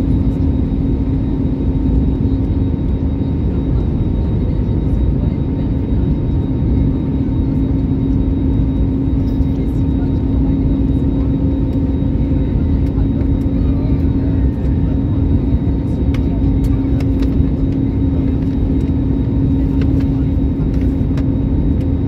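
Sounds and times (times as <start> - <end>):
constant low hum: 0.0 - 22.0.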